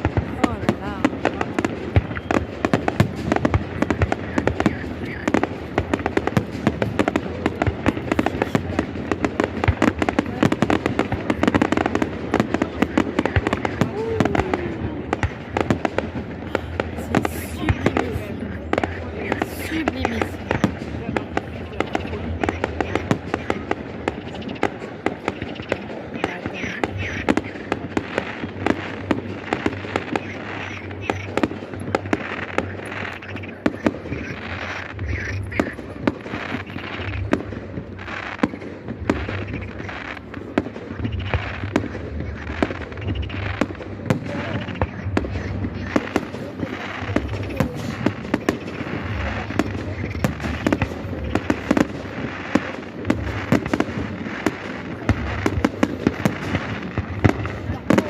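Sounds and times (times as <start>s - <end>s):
firework crackling: 0.0s - 58.0s
firework shells bursting: 0.0s - 58.0s.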